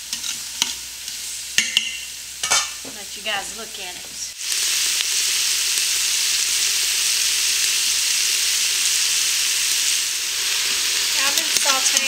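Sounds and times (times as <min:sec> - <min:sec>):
mushrooms and onions sizzling in oil: 0:00.0 - 0:12.0.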